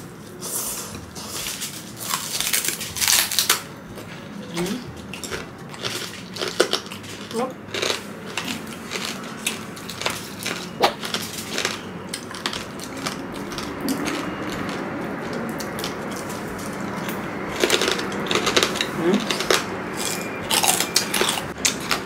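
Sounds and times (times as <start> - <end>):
crunching and chewing crispy food: 0.2 - 22.0.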